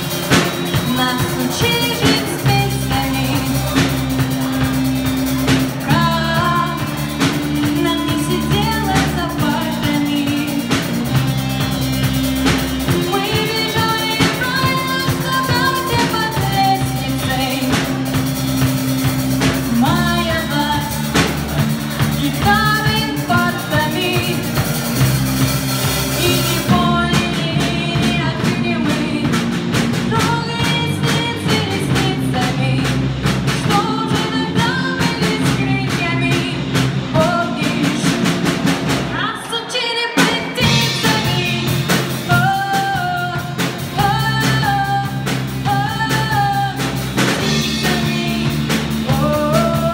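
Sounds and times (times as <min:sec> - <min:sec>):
band with drums and bass: 0:00.0 - 0:49.9
person singing: 0:00.0 - 0:49.9.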